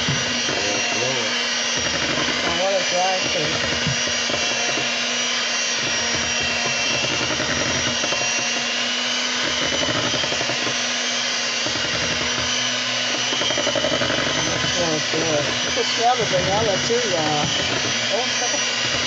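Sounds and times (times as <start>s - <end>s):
electric hand mixer running: 0.0s - 19.0s.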